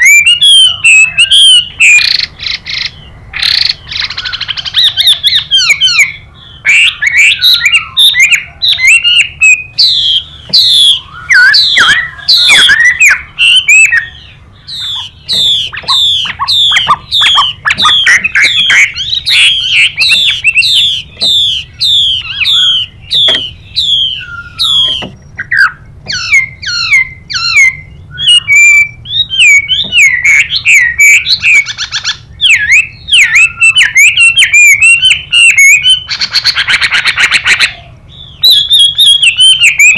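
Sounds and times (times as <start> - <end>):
bird singing whistled phrases: 0.0 - 39.9
quick down-slurred bird notes: 0.0 - 39.9.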